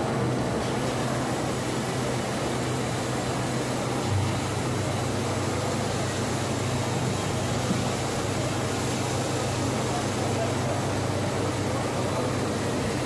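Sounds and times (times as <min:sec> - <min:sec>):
busy exhibition hall noise: 0:00.0 - 0:13.0
injection moulding machine hum: 0:00.0 - 0:13.0.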